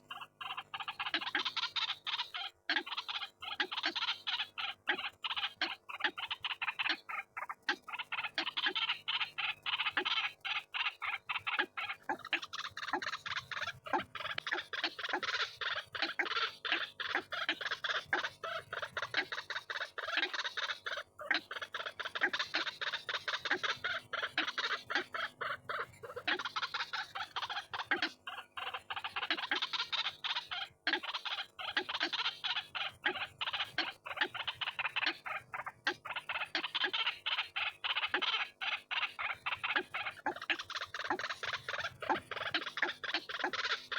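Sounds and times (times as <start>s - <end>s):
waterhen calling rapidly: 7.9s - 43.9s.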